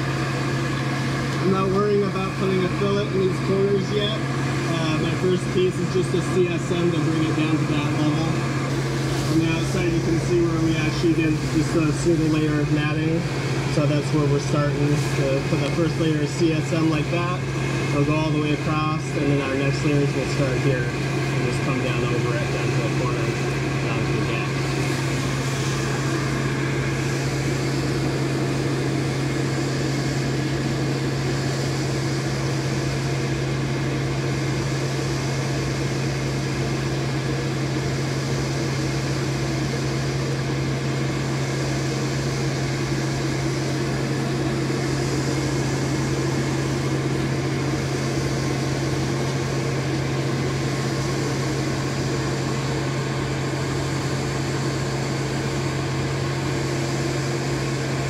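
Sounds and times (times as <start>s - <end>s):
electric blower humming: 0.0s - 58.0s.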